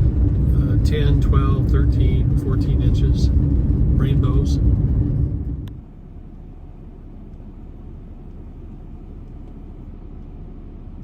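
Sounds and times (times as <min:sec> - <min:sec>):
car driving on road: 0:00.0 - 0:11.0.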